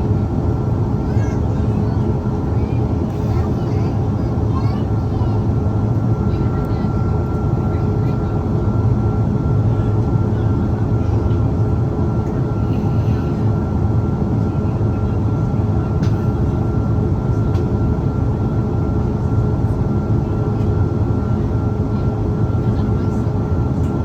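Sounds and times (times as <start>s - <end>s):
jet engine rumble in cabin: 0.0s - 24.0s.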